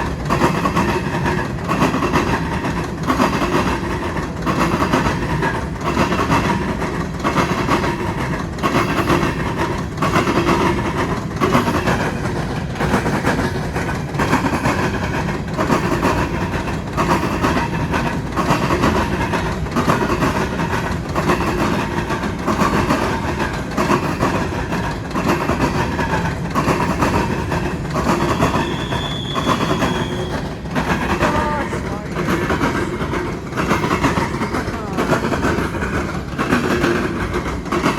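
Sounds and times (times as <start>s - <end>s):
train rumble: 0.0s - 37.9s
train wheels clacking on rail joints: 0.0s - 37.9s.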